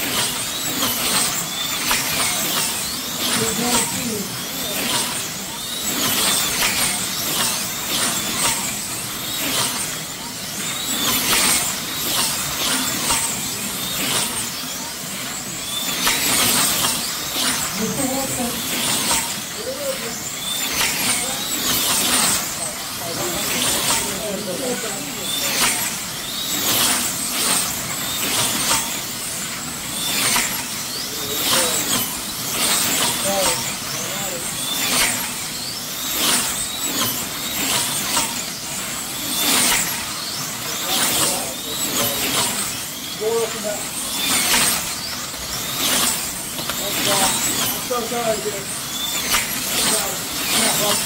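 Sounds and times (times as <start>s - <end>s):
slot car motors whining: 0.0s - 51.0s.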